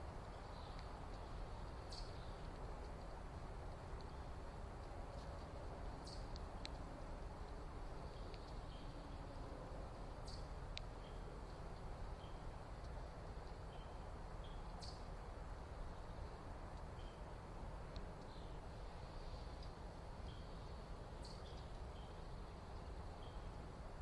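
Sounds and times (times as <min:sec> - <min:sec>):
birds chirping: 0:00.0 - 0:24.0
low background rumble: 0:00.0 - 0:24.0.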